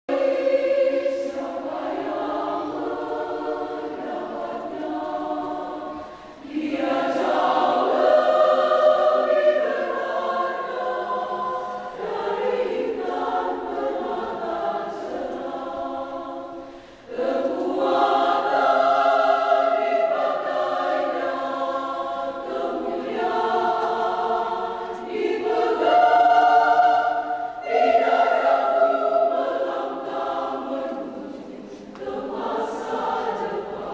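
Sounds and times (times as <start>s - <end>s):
women's choir singing: 0.1s - 33.9s.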